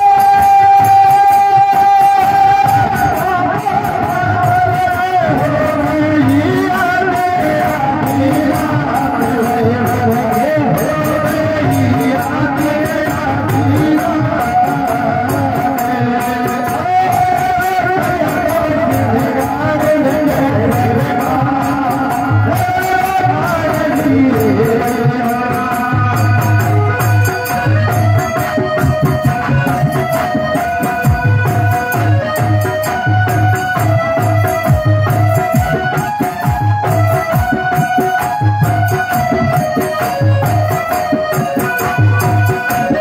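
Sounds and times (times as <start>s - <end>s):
rattling percussion: 0.0s - 43.0s
repeating drum beat: 0.0s - 43.0s.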